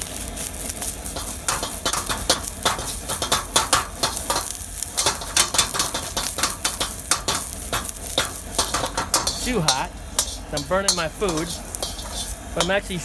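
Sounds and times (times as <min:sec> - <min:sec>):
onion sizzling in hot oil: 0:00.0 - 0:13.0
ladle scraping metal wok: 0:00.7 - 0:13.0.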